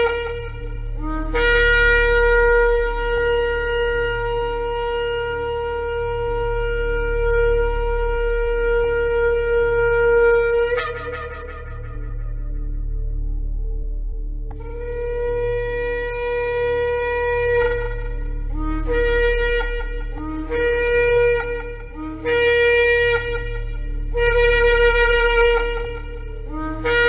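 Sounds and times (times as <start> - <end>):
shofar blast: 0.0 - 13.1, 14.5 - 27.0
steady low hum: 0.0 - 27.0.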